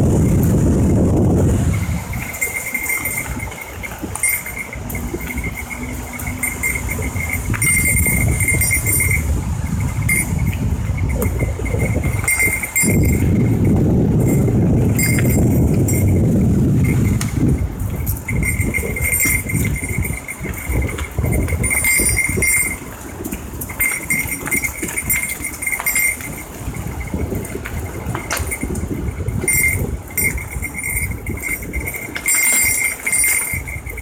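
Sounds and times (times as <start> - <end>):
bike tyres rumbling on trail: 0.0 - 34.0
small bell jingling: 0.0 - 34.0
wind on microphone: 0.0 - 34.0.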